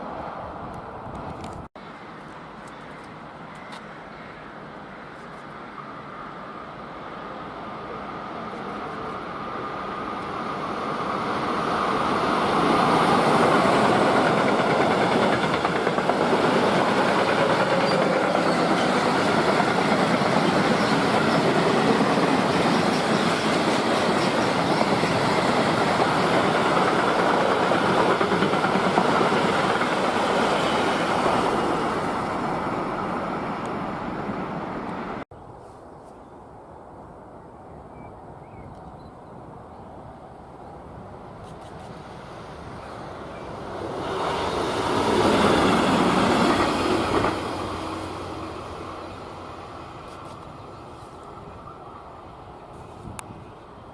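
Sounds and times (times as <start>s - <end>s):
freight train passing: 0.0s - 35.2s, 39.3s - 53.9s.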